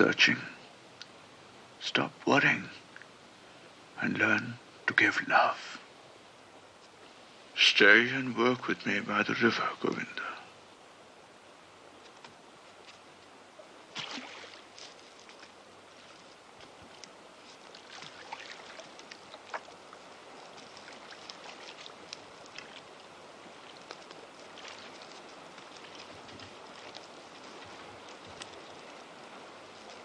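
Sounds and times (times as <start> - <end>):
river water flowing: 0.0 - 30.0
water splashes and trickles: 5.8 - 30.0.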